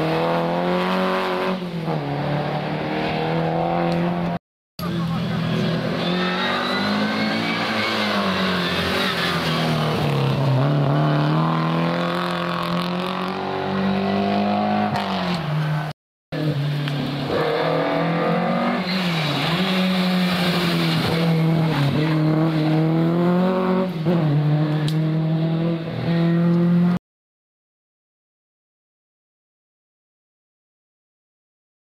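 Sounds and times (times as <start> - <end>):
rally car engines at full throttle: 0.0 - 27.0.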